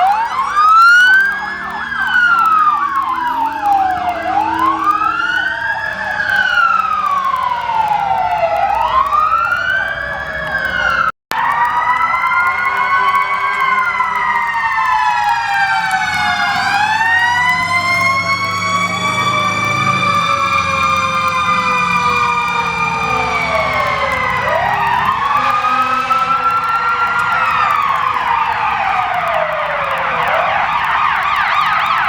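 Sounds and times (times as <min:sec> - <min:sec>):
fire truck sirens wailing: 0:00.0 - 0:32.0.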